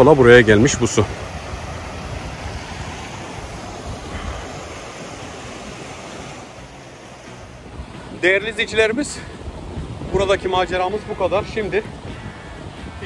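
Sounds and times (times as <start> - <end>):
stream water flowing: 0.0 - 13.0
wind rumbling on microphone: 0.0 - 13.0.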